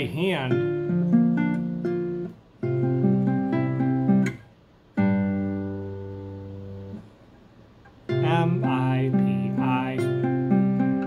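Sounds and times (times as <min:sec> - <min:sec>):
classical guitar fingerstyle: 0:00.0 - 0:11.0.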